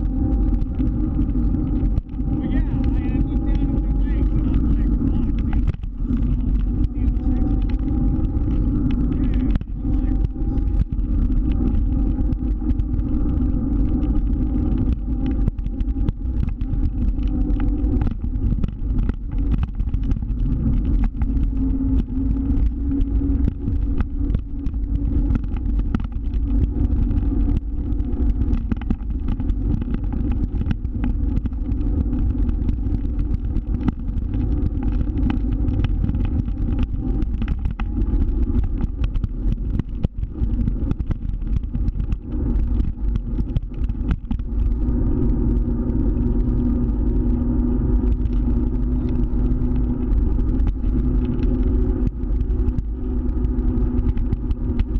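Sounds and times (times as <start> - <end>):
heavy low rumble: 0.0 - 54.9
motor scooter engine running: 0.0 - 54.9.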